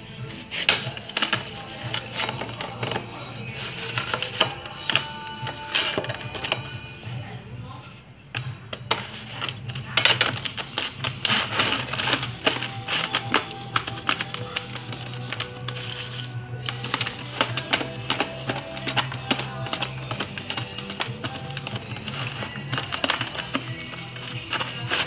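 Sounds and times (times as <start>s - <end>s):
background music: 0.0s - 25.0s
metal clinking and scraping: 0.0s - 25.0s.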